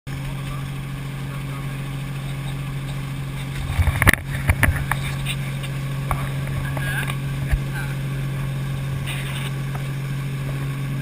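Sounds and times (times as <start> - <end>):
helicopter drone: 0.1 - 11.0.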